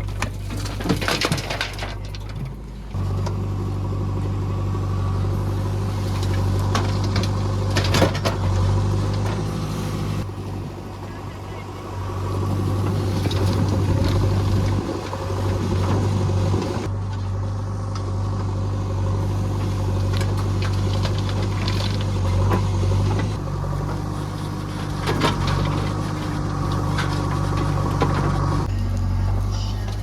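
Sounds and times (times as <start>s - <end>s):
heavy machinery diesel engine: 0.0s - 30.0s.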